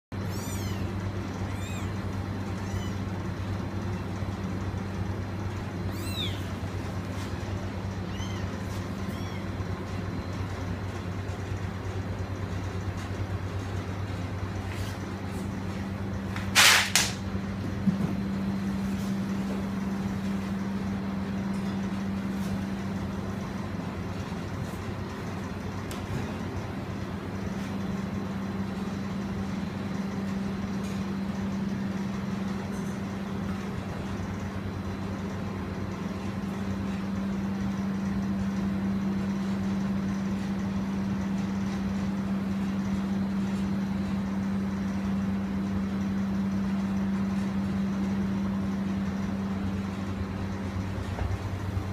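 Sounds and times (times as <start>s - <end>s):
low mechanical hum: 0.1s - 51.9s.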